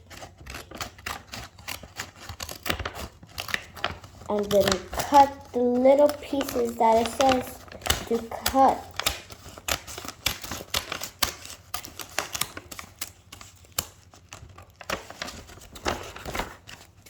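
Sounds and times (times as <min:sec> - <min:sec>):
scissors snipping packaging: 0:00.0 - 0:17.0.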